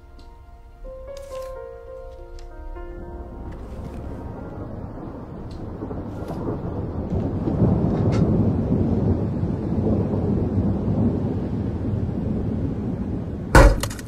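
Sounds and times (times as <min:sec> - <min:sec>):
deep rumbling: 0:01.7 - 0:14.0.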